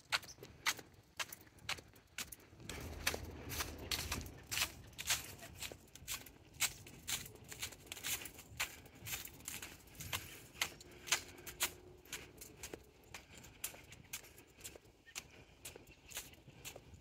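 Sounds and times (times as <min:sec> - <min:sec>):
footsteps crunching on a trail: 0:00.0 - 0:17.0.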